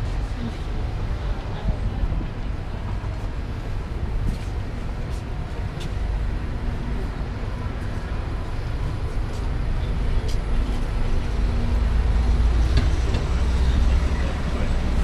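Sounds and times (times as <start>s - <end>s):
faint engine hum: 0.0s - 15.0s
rumble of passing vehicles: 0.0s - 15.0s.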